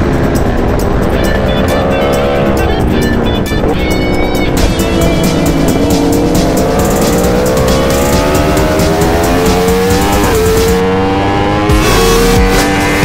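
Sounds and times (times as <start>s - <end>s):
motorcycle engine running hard: 0.0s - 13.0s.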